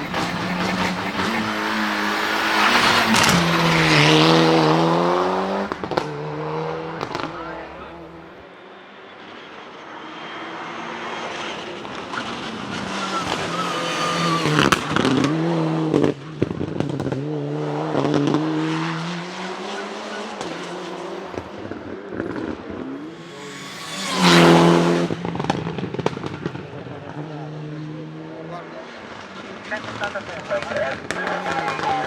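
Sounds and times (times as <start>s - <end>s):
rally car engine revving: 0.0s - 8.4s, 10.4s - 32.0s.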